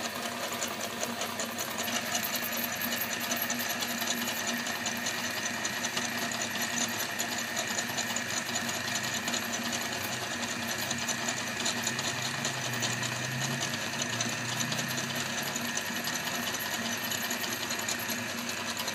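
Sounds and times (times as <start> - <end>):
meat grinder whirring: 0.0 - 18.9.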